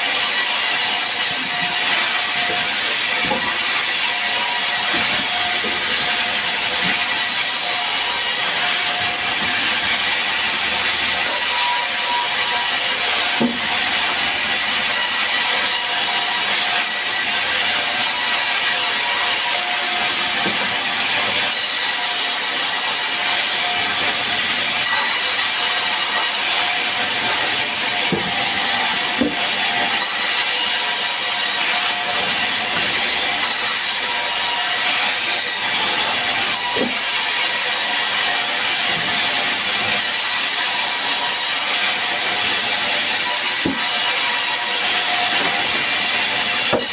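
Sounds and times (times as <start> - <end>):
power saw cutting wood: 0.0 - 46.9.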